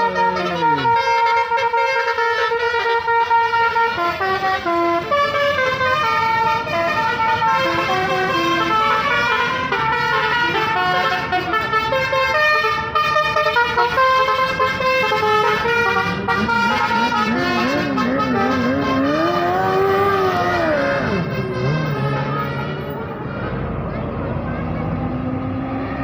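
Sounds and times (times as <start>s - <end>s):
musical bus horns playing a tune: 0.0s - 26.0s.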